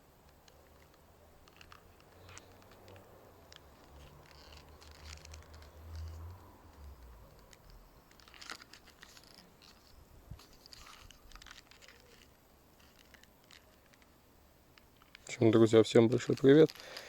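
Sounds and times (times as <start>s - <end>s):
leather creaking: 0.3s - 17.0s.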